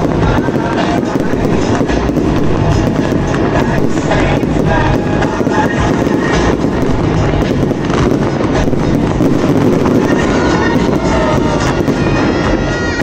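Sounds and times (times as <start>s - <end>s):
aerial shells bursting: 0.0s - 12.2s
fireworks crackling and hissing: 0.0s - 13.0s.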